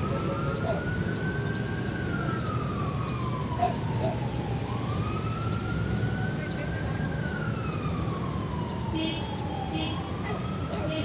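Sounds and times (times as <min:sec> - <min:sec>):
emergency siren wailing: 0:00.0 - 0:11.0.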